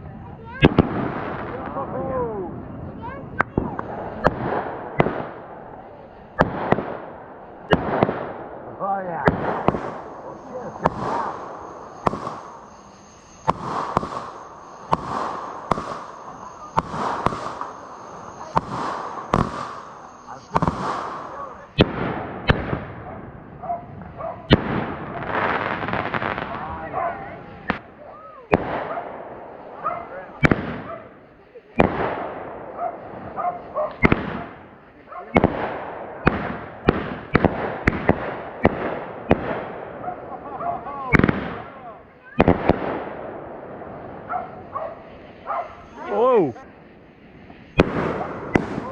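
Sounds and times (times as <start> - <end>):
fireworks banging: 0.0 - 48.9
fireworks fizzing: 0.0 - 48.9.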